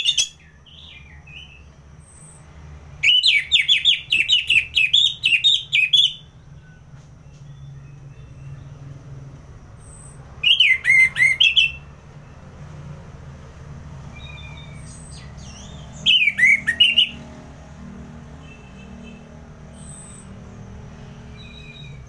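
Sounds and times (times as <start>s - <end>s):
thrush singing whistled notes: 0.0s - 9.0s, 9.6s - 12.8s, 14.0s - 17.4s, 18.4s - 22.0s.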